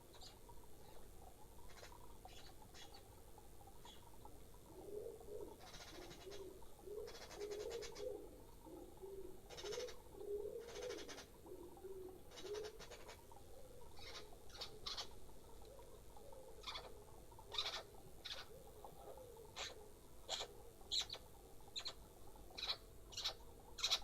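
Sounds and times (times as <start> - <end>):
pigeons cooing: 1.6 - 24.0.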